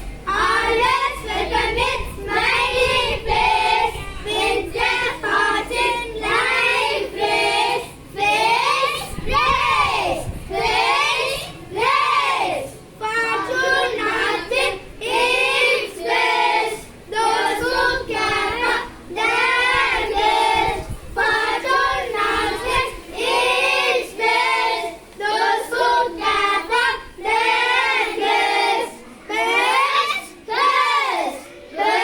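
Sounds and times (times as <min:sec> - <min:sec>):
children singing in unison: 0:00.0 - 0:32.0.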